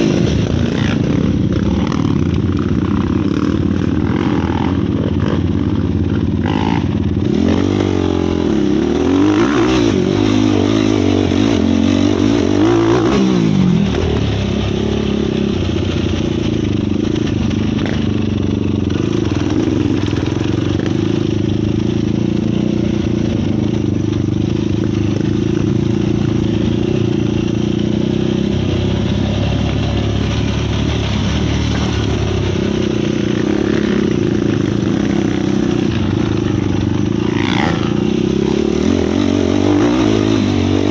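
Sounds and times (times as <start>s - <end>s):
quad engines revving: 0.0s - 40.9s.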